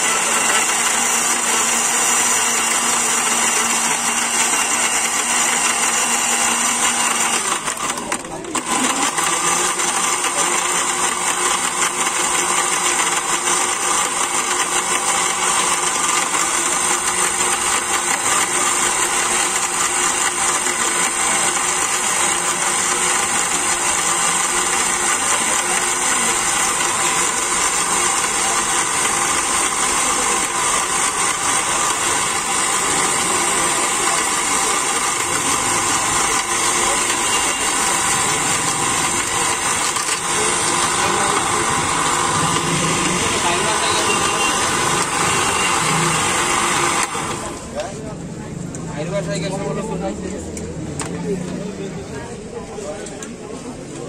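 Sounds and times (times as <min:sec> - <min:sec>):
electric blender running: 0:00.0 - 0:50.2.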